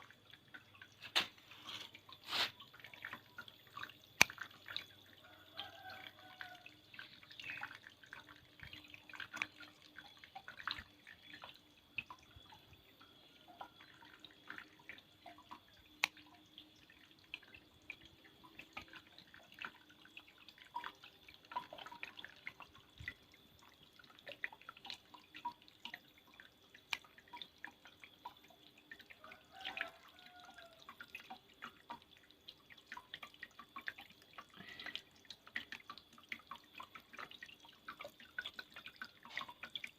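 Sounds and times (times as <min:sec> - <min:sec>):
faint steady hum: 0:00.0 - 0:39.9
water dripping and splashing: 0:00.0 - 0:39.9.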